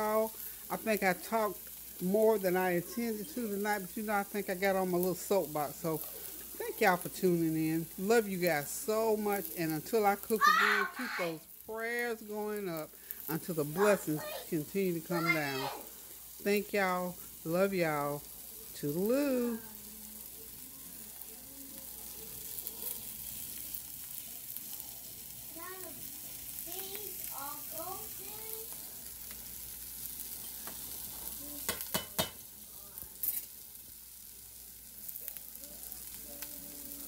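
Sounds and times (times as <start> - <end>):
food sizzling in a pan: 0.0 - 37.0.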